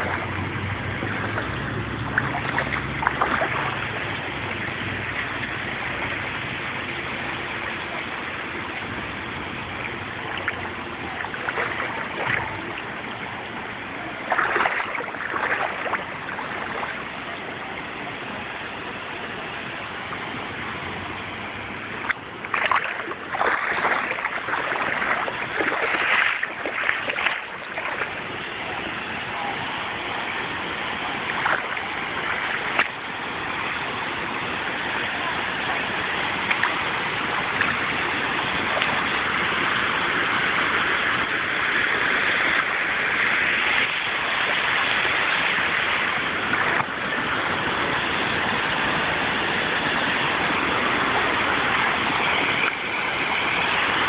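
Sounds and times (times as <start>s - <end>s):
floodwater rushing: 0.0s - 54.0s.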